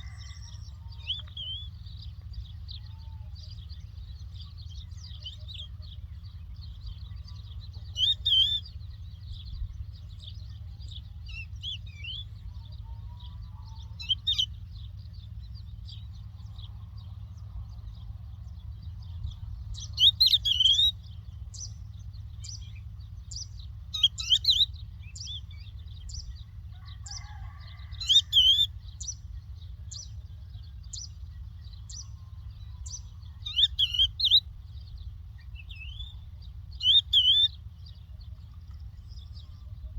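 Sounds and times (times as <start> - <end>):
lark chirping: 0.0 - 16.8, 17.8 - 39.9
low rumble: 0.0 - 39.9.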